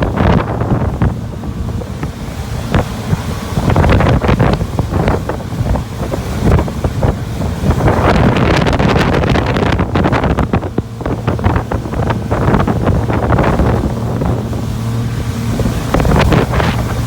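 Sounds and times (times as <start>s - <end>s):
hull on water: 0.0s - 17.0s
motorboat engine: 0.0s - 17.0s
wind buffeting microphone: 0.0s - 17.0s.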